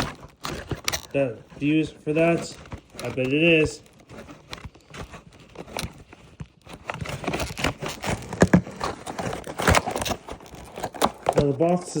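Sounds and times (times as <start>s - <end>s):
cardboard box being pulled open: 0.0s - 11.4s.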